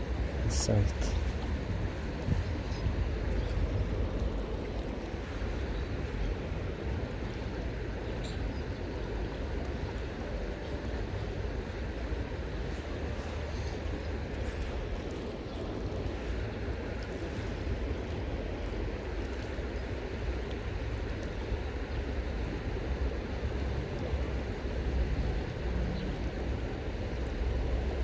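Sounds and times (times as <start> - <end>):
river current flowing: 0.0 - 28.0.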